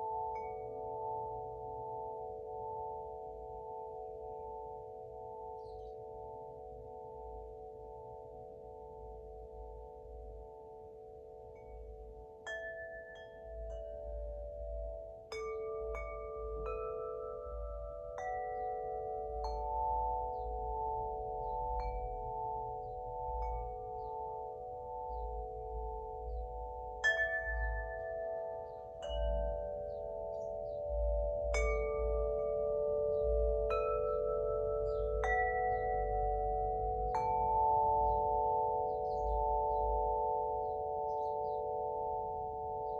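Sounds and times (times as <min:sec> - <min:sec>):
wind chime ringing: 0:00.0 - 0:42.9.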